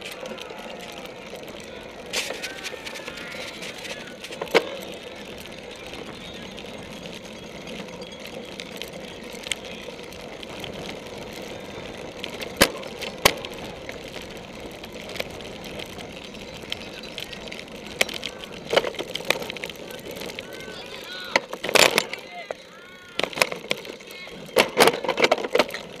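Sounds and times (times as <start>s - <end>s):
bike rolling over grass: 0.0s - 26.0s
rattling ticks: 0.0s - 26.0s.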